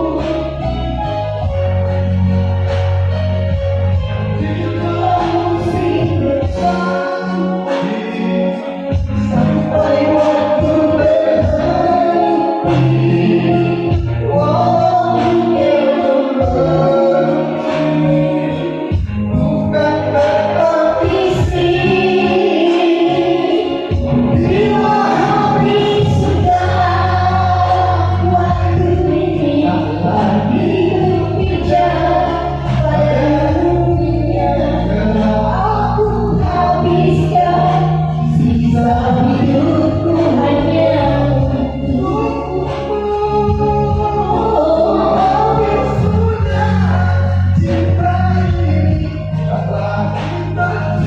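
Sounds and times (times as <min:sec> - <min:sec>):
group of voices singing: 0:00.0 - 0:01.1, 0:04.3 - 0:51.0
musical backing with bass line: 0:00.0 - 0:51.0.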